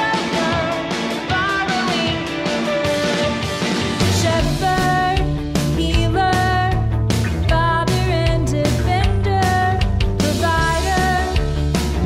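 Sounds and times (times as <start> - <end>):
pop-rock band playing: 0.0 - 12.0
woman singing: 0.0 - 12.0.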